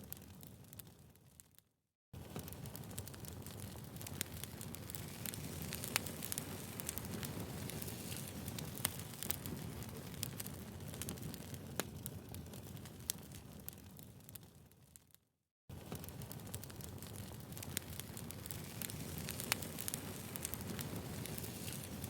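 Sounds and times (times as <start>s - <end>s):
wood fire crackling: 0.0s - 1.6s, 2.2s - 22.0s.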